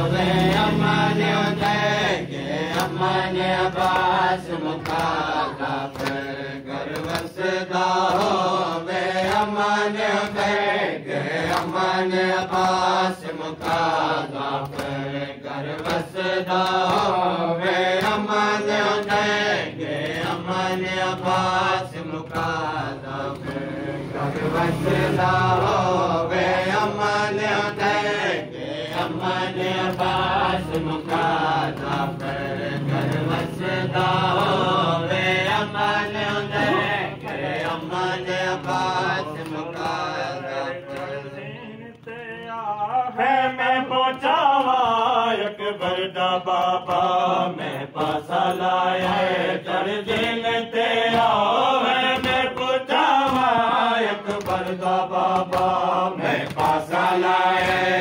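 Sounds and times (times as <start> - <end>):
light rhythmic beats: 0.0 - 58.0
men chanting in unison: 0.0 - 58.0.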